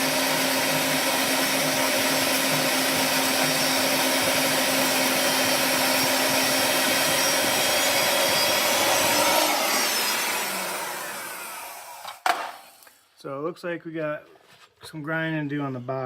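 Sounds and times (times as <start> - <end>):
bandsaw cutting metal: 0.0 - 13.0.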